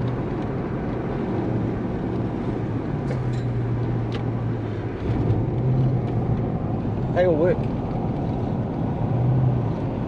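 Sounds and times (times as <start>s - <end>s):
car engine drone: 0.0s - 10.0s.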